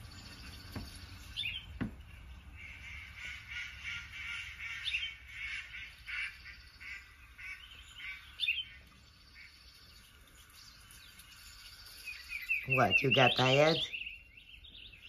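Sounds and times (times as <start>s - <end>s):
songbird chirps through tv speakers: 0.0s - 15.0s.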